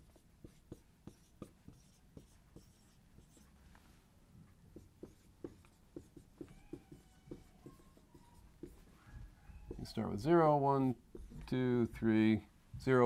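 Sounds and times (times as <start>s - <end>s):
marker writing on whiteboard: 0.0s - 3.6s, 4.7s - 12.1s.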